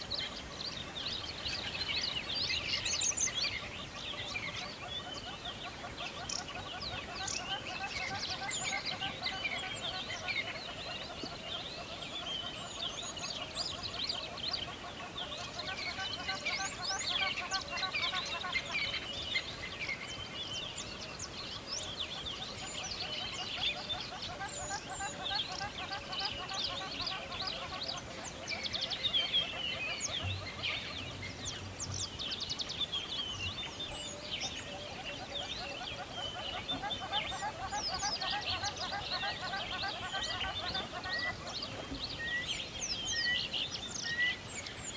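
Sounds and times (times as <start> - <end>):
birds chirping and singing: 0.0 - 44.9
songbirds chorus: 0.0 - 44.9.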